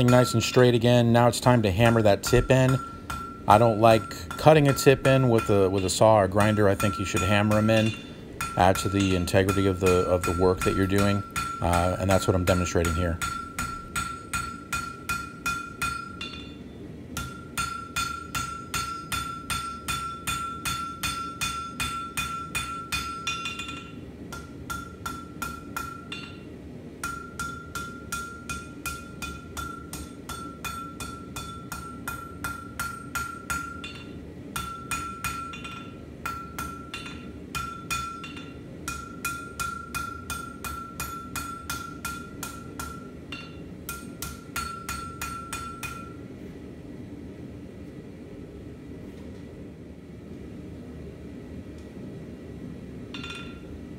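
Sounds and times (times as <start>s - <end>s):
anvil ringing: 0.0s - 46.2s, 53.1s - 53.7s
hammer striking steel on anvil: 0.0s - 46.2s, 53.1s - 53.7s.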